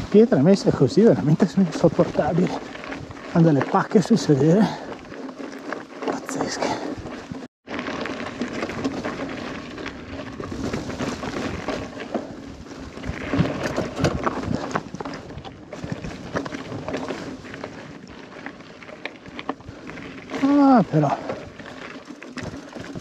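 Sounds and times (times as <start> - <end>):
mountain bike rattling over rocks: 0.0 - 23.0.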